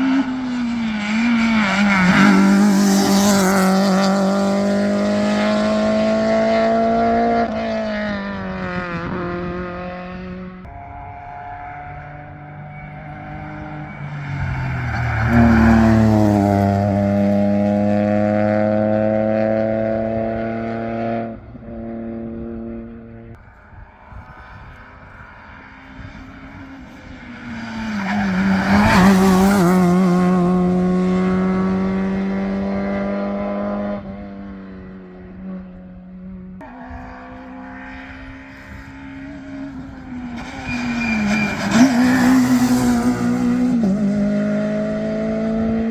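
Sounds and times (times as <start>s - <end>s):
rally cars passing at full throttle: 0.0s - 45.9s.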